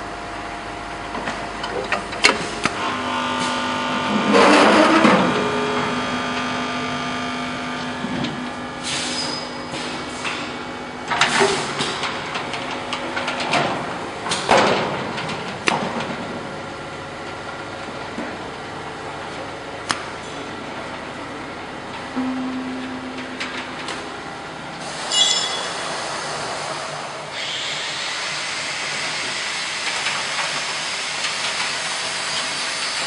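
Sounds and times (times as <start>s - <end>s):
packing machine humming: 0.1s - 28.1s.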